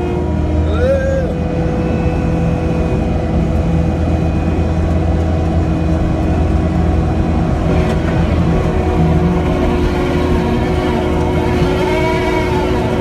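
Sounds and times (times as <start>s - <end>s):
diesel engine drone: 0.0s - 13.0s
thin steady whine: 1.6s - 13.0s.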